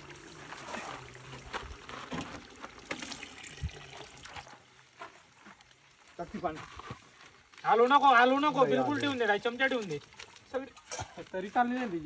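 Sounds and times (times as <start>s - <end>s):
water trickling as poured: 0.0s - 11.5s.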